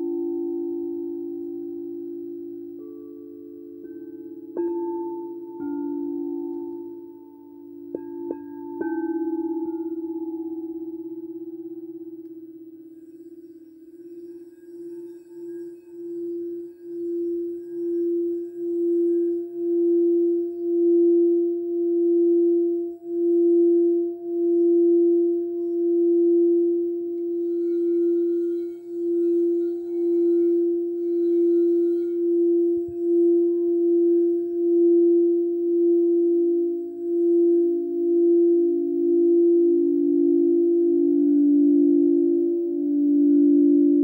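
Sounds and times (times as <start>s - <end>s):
singing bowl ringing tone: 0.0s - 44.0s.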